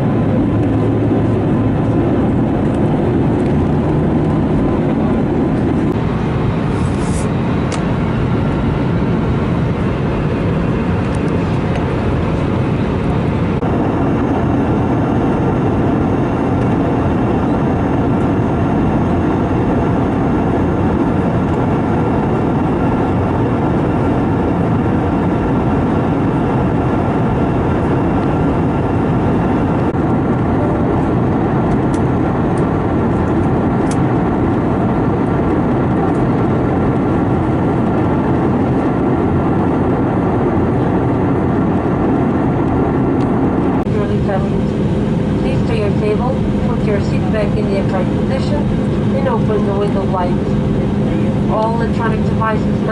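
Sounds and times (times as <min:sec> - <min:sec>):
airplane cabin drone: 0:00.0 - 0:52.9.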